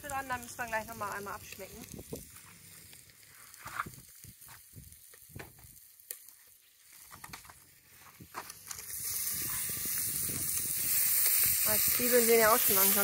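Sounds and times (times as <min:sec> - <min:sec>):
fire crackling and popping: 0:00.0 - 0:13.0
meat sizzling in a pot: 0:00.0 - 0:13.0.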